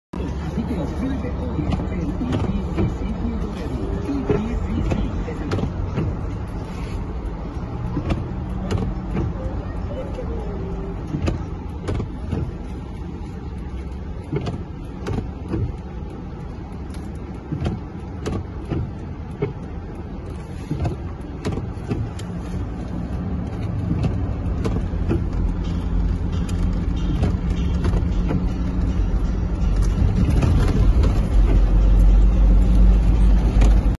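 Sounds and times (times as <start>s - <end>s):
car engine and road hum: 0.1s - 33.9s.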